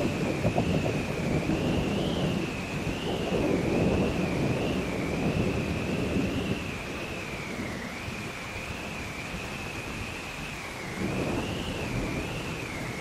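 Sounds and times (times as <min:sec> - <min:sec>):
heavy rain hissing: 0:00.0 - 0:13.0
low rolling thunder: 0:00.0 - 0:13.0.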